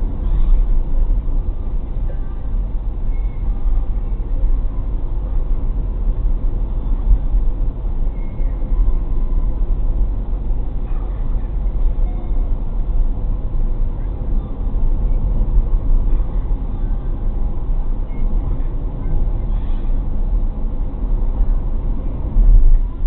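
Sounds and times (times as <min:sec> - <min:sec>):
car cabin road rumble: 0:00.0 - 0:23.0.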